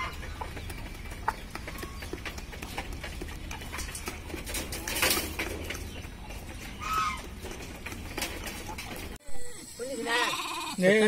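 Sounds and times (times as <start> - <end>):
bird chirp: 0.0 - 10.9.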